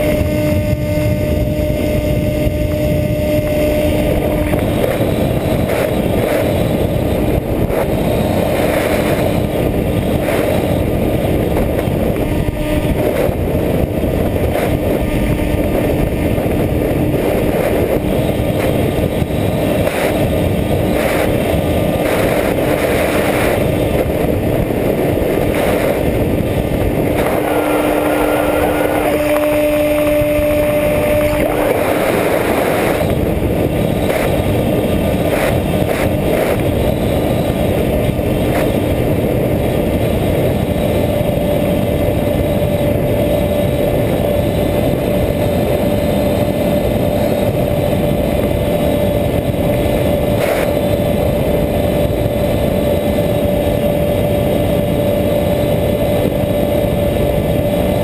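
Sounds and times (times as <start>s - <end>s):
electric motor and propeller drone: 0.0s - 58.0s
wind rushing: 0.0s - 58.0s.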